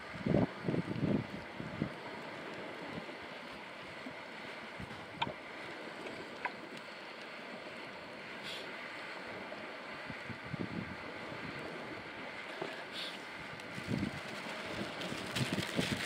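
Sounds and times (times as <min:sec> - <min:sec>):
wind: 0:00.0 - 0:16.0
sea shore waves: 0:01.4 - 0:16.0.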